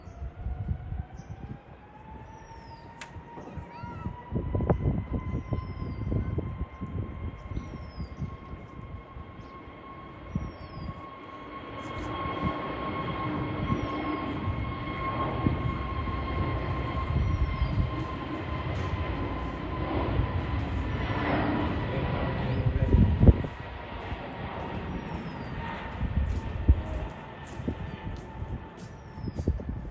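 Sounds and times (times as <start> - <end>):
jet engines roaring: 0.1 - 29.9.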